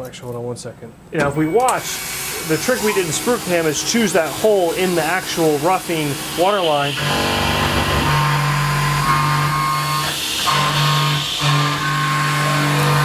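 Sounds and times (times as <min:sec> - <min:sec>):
end mill cutting metal: 0:01.2 - 0:13.0.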